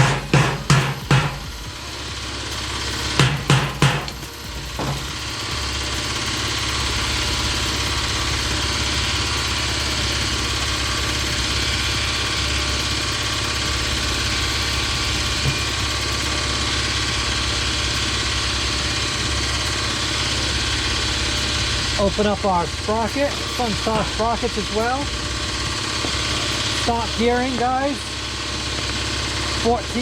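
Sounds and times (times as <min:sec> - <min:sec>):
power grinder grinding metal: 0:00.0 - 0:30.0.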